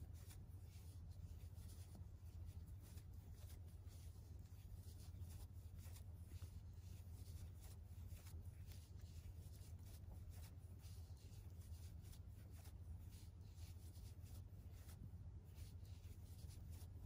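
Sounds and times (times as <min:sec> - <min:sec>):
crochet hook rustling yarn: 0:00.0 - 0:17.0
low steady hum: 0:00.0 - 0:17.0.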